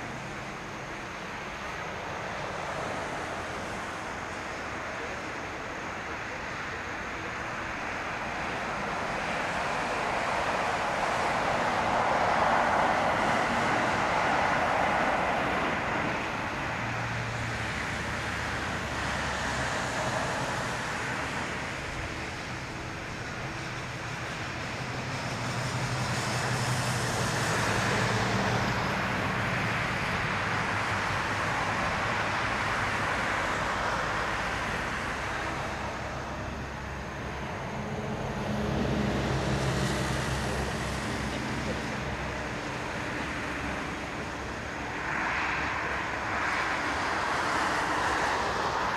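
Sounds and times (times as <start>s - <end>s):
distant jet plane taxiing: 0.0s - 48.9s.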